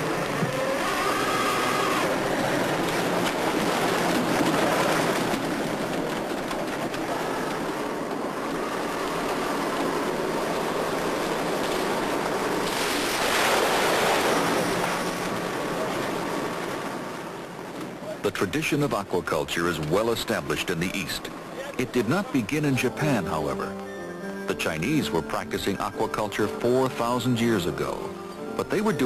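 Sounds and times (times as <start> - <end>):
rushing water: 0.0 - 6.4, 8.6 - 29.0
fishing boat engine: 0.0 - 8.0, 9.9 - 29.0
seawater churning: 0.0 - 29.0.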